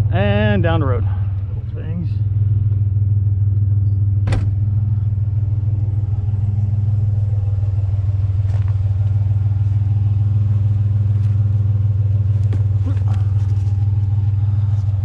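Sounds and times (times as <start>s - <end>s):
engine and road drone in cab: 0.0s - 15.0s.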